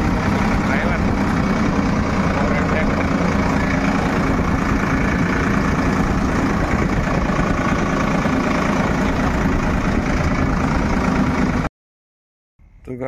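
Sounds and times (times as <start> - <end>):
tractor engine running: 0.0 - 11.7.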